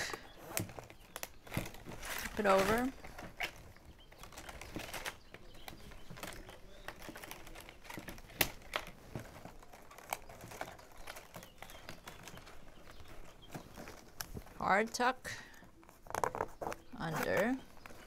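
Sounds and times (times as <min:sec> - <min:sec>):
plastic straps clicking: 0:00.0 - 0:18.0.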